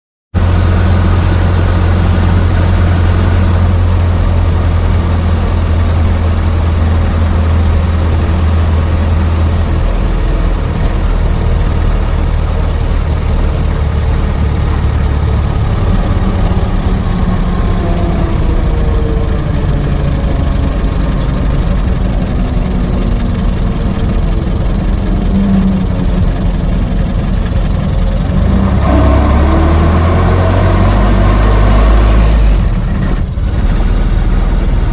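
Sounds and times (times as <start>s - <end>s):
car engine idling: 0.4s - 31.6s.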